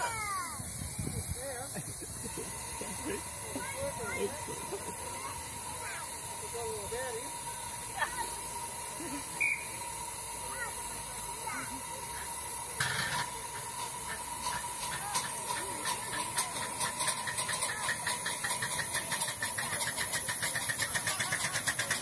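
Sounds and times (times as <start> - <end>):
steam hiss: 0.0 - 22.0
steam locomotive chuffing: 0.0 - 22.0.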